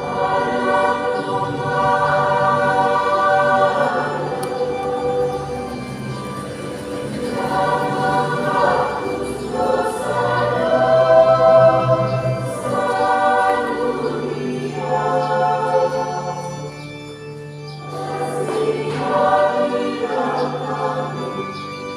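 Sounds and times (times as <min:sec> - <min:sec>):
choir singing a hymn: 0:00.0 - 0:21.9.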